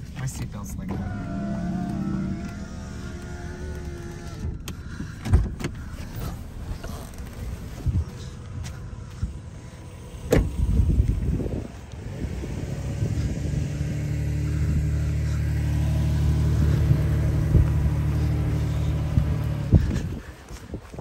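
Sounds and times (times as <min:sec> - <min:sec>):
off-road vehicle engine under load: 0:00.0 - 0:21.0.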